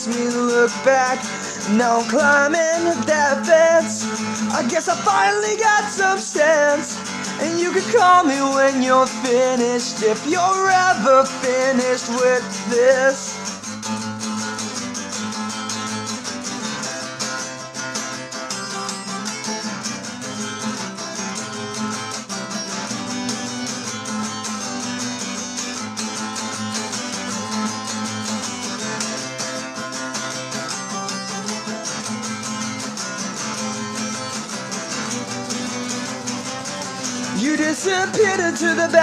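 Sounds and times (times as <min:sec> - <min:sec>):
acoustic guitar strumming: 0:00.0 - 0:39.0.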